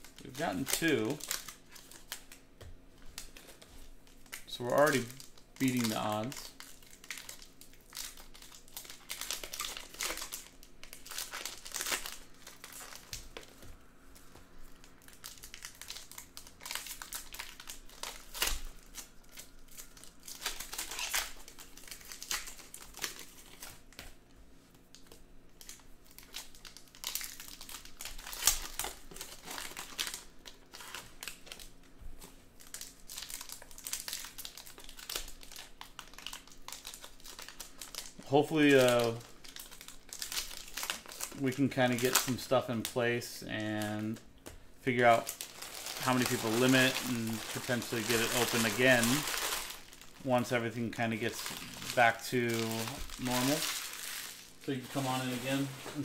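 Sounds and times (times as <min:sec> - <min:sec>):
card pack wrappers tearing and crinkling: 0:00.0 - 0:02.4, 0:03.2 - 0:24.0, 0:24.8 - 0:44.2, 0:44.9 - 0:56.0.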